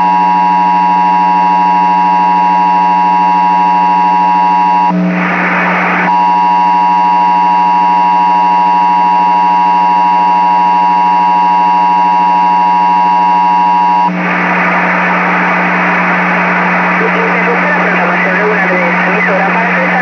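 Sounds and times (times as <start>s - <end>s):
low buzz: 0.0s - 20.0s.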